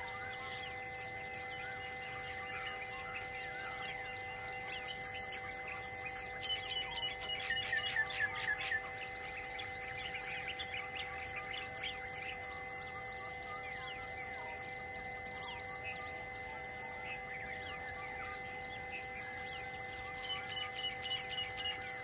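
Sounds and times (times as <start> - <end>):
insect hum: 0.0 - 22.0
wild birds chirping: 0.0 - 22.0.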